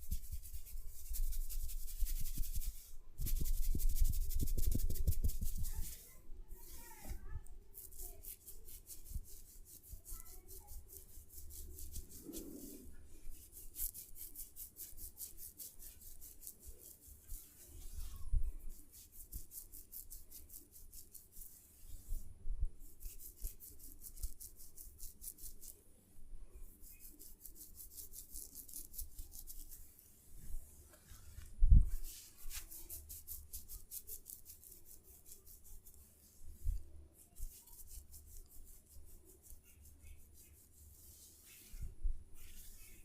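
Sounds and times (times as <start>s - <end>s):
rhythmic rasping of hair rubbing: 0.0s - 7.2s, 7.8s - 22.2s, 22.8s - 25.8s, 26.8s - 30.5s, 31.8s - 43.0s.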